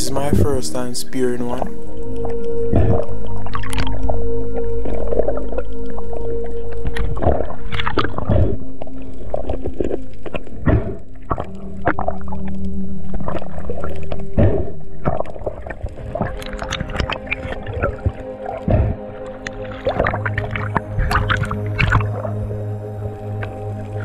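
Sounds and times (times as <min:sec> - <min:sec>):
music with long held notes: 0:00.0 - 0:24.0.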